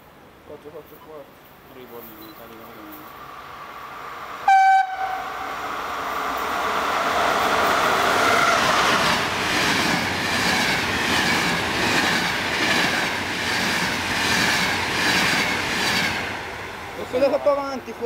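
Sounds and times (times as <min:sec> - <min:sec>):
train passing at speed: 0:02.6 - 0:18.0.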